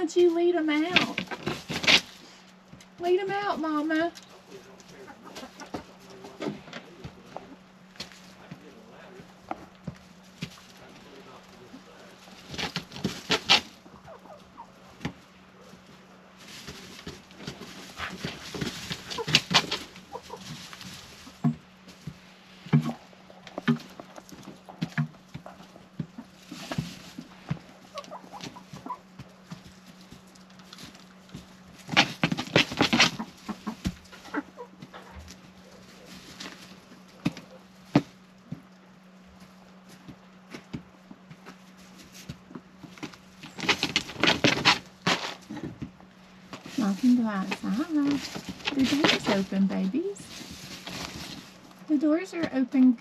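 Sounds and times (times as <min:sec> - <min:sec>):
hens clucking: 0:00.0 - 0:52.8
hens scratching and pecking: 0:00.0 - 0:53.0.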